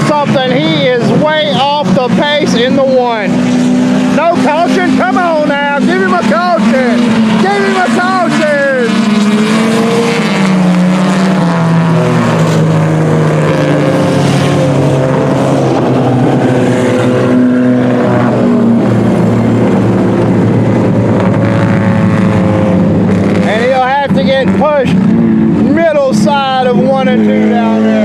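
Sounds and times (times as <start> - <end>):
race car engines racing: 0.0 - 28.0.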